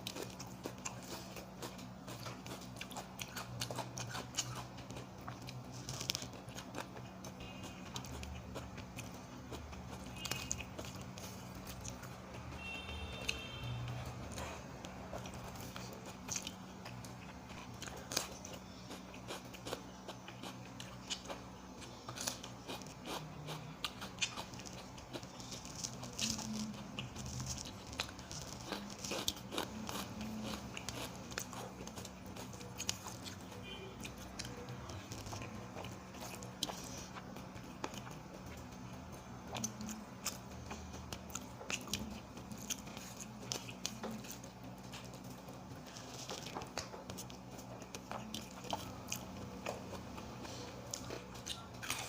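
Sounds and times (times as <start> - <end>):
faint low hum: 0.0 - 52.0
person chewing crunchy food: 0.0 - 52.0.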